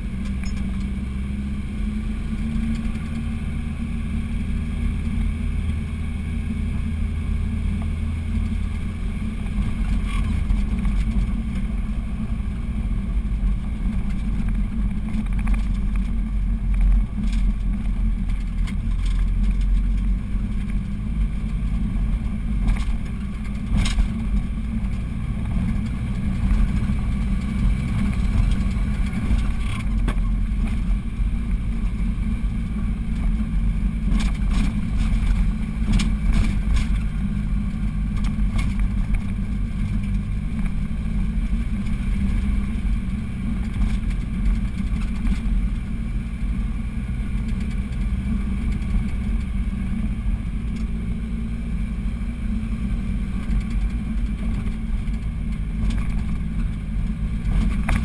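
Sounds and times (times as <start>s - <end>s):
vehicle engine and tyre rumble: 0.0s - 58.0s.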